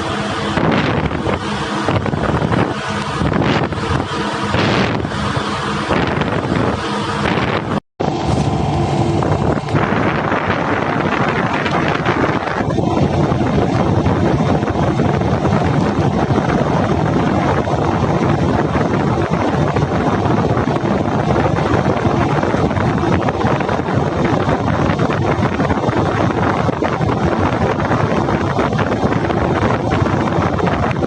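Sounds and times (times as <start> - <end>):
boat engine drone: 0.0 - 31.0
wind noise on microphone: 0.0 - 31.0.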